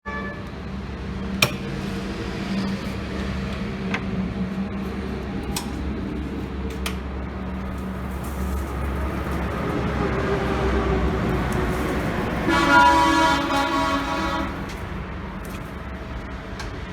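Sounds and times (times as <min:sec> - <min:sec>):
low machine hum: 0:00.1 - 0:16.9.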